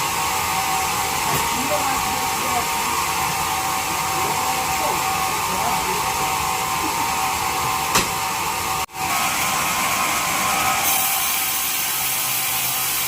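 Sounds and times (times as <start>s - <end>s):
bandsaw motor whine: 0.0s - 13.0s.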